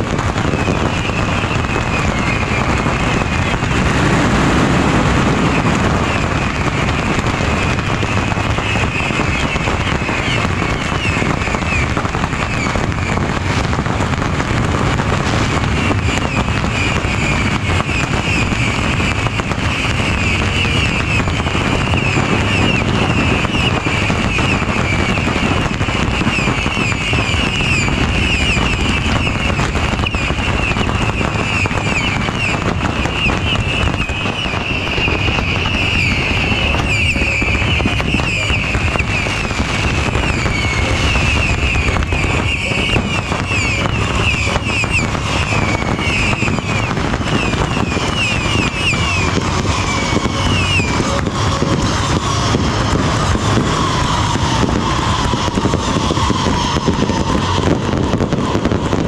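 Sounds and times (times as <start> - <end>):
fireworks crackling and banging: 0.0 - 59.0
rockets whizzing: 0.0 - 59.0.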